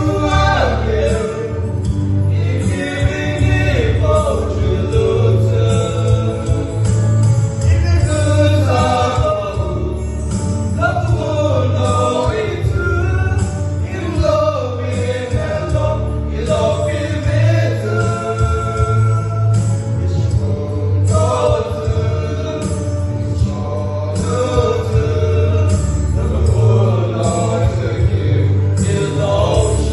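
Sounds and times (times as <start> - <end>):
backing track with bass: 0.0 - 29.9
men singing a hymn: 0.0 - 29.9.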